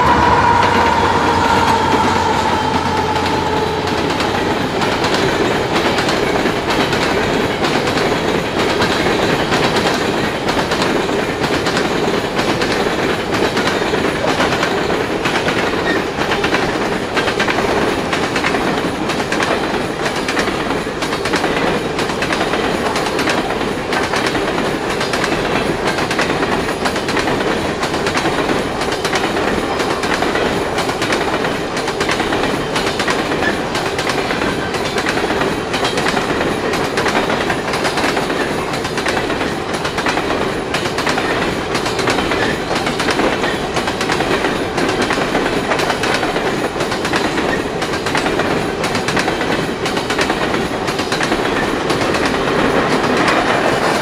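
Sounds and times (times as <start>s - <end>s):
freight train wheels rumbling: 0.0s - 54.0s
train wheels clicking and knocking: 0.0s - 54.0s.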